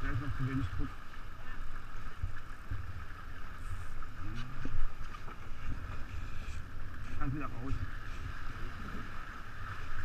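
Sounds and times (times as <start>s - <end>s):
water rushing along hull: 0.0s - 10.0s.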